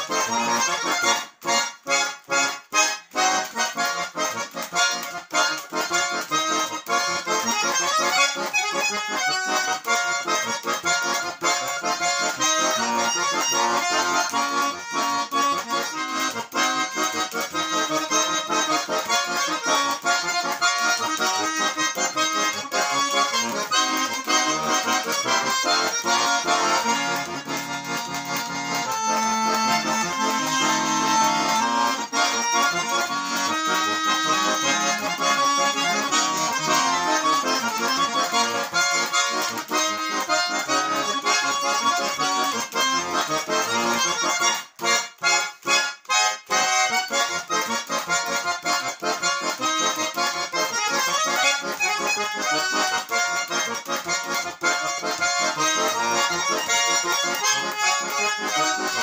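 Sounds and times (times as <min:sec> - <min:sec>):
button accordion melody: 0:00.0 - 0:59.0.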